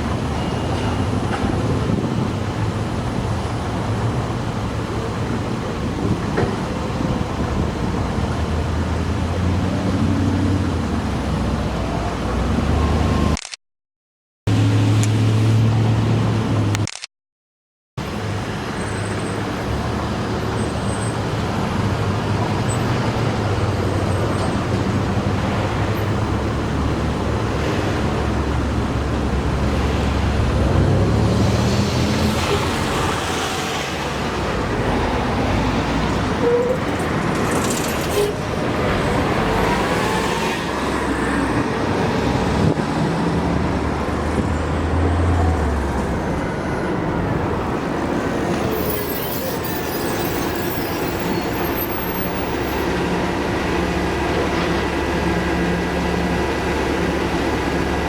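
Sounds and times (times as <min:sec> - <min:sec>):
vehicles driving past: 0:00.0 - 0:13.4, 0:18.0 - 0:58.0.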